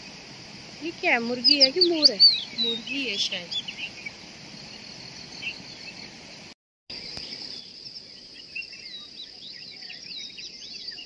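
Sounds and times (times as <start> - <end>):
high-pitched insect trill: 0.0 - 11.0
faint bird chirps: 0.9 - 11.0.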